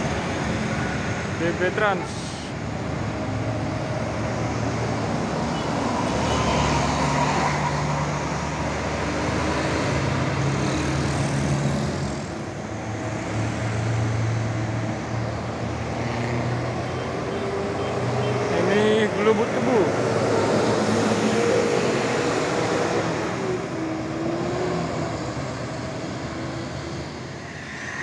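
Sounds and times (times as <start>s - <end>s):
cars and motorcycles: 0.0s - 28.0s
coach diesel engines: 0.0s - 28.0s.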